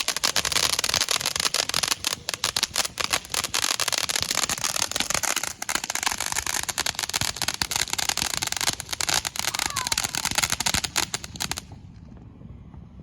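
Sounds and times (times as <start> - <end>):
fireworks crackling: 0.0 - 12.3.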